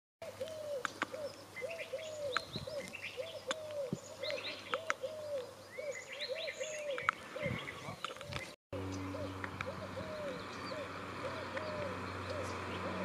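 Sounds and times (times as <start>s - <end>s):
bird repeating low call: 0.2s - 13.0s
birds chirping and twittering: 0.2s - 13.0s.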